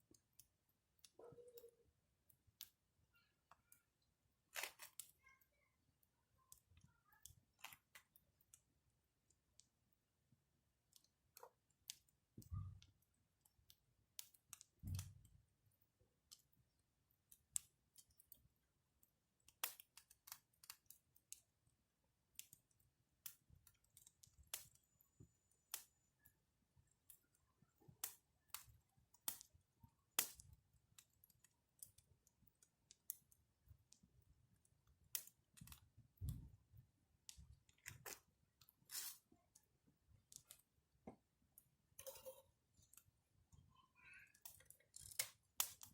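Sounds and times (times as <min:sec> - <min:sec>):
wood fire crackling: 0:00.0 - 0:05.2, 0:06.0 - 0:45.9.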